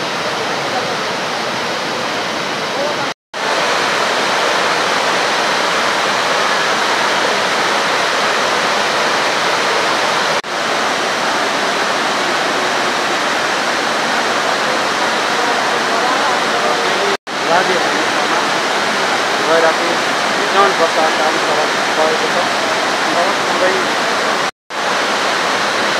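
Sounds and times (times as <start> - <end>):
stream rushing over boulders: 0.0 - 25.9.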